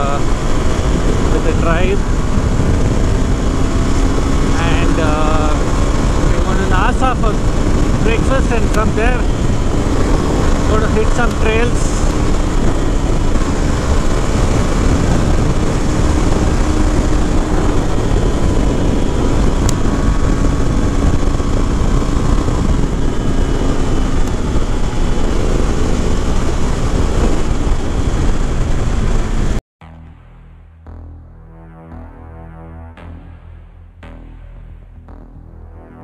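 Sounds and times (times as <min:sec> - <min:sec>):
wind rushing over microphone: 0:00.0 - 0:29.6
motorcycle engine running: 0:00.0 - 0:36.0.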